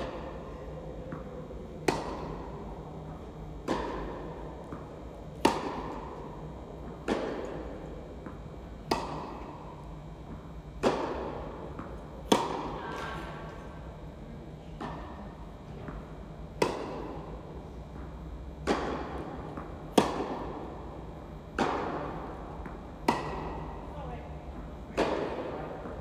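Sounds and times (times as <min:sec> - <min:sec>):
racket hitting tennis ball: 0:00.0 - 0:13.6, 0:14.8 - 0:16.0, 0:16.6 - 0:17.4, 0:18.0 - 0:23.9, 0:24.6 - 0:26.0.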